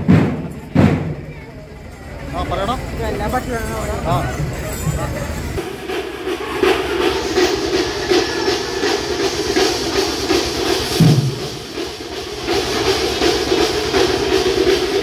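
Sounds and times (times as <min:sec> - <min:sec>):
festival music with fast drumming: 0:00.0 - 0:15.0.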